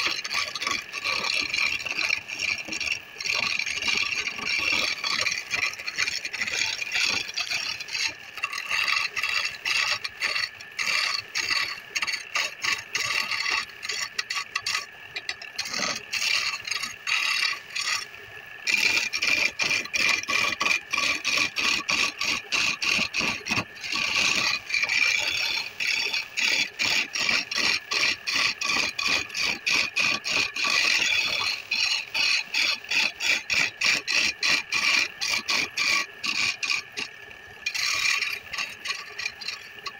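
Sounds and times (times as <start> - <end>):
lathe drive whine: 0.0 - 39.9
turning tool cutting wood: 0.0 - 39.9.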